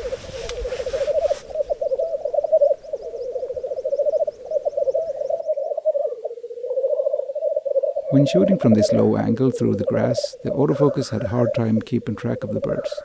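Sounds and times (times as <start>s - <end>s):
grouse bubbling cooing song: 0.0s - 13.0s.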